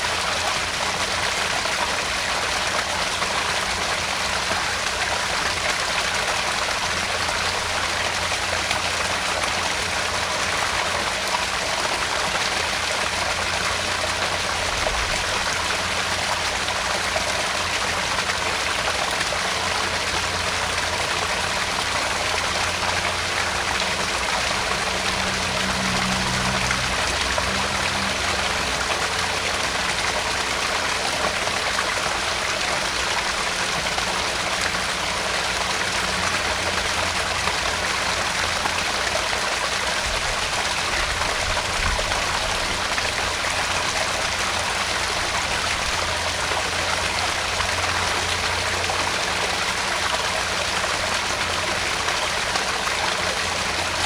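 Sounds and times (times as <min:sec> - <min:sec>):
small waterfall splashing: 0:00.0 - 0:54.0.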